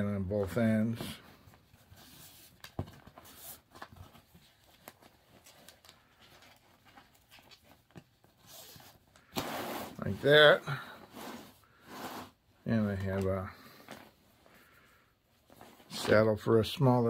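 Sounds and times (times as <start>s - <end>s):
cord rustling: 0.9s - 16.7s.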